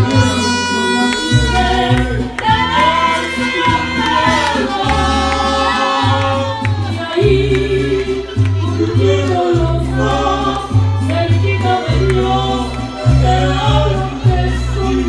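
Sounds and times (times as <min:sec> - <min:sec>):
heavy pulsing bass line: 0:00.0 - 0:15.0
voices singing: 0:00.0 - 0:15.0.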